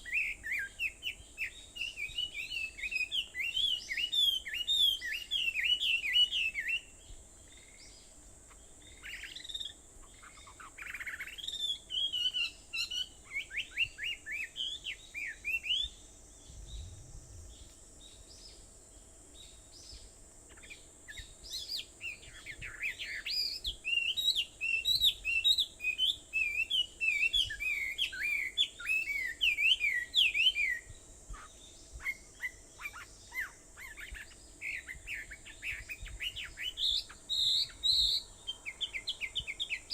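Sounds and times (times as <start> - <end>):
high-pitched hiss: 0.0 - 39.9
songbirds chirping and trilling: 0.0 - 39.9.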